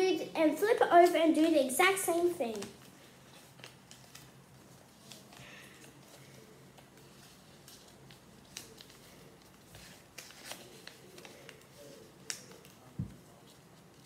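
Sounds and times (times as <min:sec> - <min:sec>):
paper rustling and crackling: 0:01.0 - 0:14.0.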